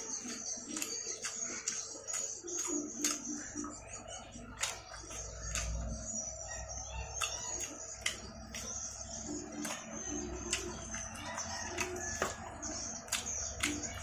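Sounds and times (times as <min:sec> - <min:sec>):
wet chewing smacks: 0:00.0 - 0:06.0, 0:07.1 - 0:14.0.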